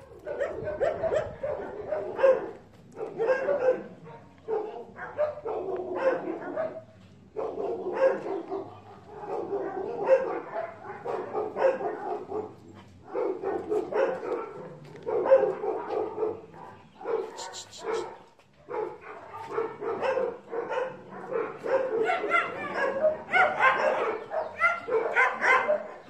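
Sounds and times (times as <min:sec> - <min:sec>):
dogs barking: 0:00.0 - 0:26.0.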